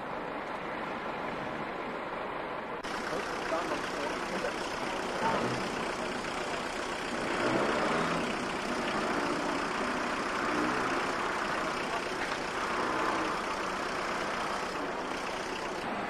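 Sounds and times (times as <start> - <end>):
heavy vehicle engines running: 0.0 - 16.0.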